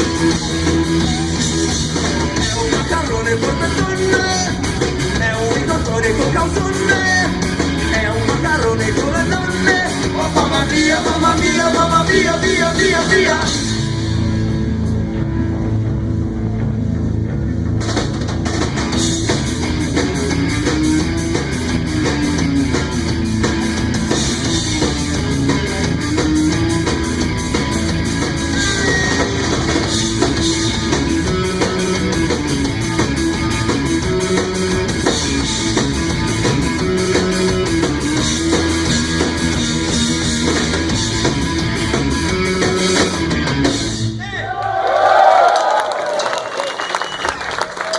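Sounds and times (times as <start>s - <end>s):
electric guitar: 0.0s - 44.2s
drum kit: 0.0s - 44.3s
bass guitar: 0.0s - 47.9s.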